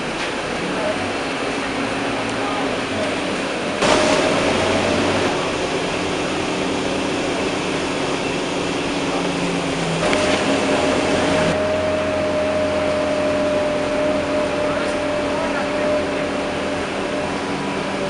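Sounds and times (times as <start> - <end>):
air-conditioning blowing: 0.0 - 18.0
diesel engine hum: 0.0 - 18.0
high steady whine: 1.7 - 18.0.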